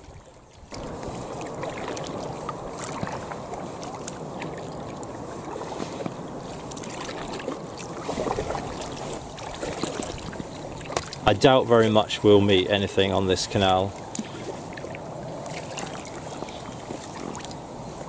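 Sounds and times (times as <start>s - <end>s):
small paddle splashes: 0.0s - 11.2s, 14.0s - 17.6s
water lapping along kayak hull: 0.0s - 18.0s.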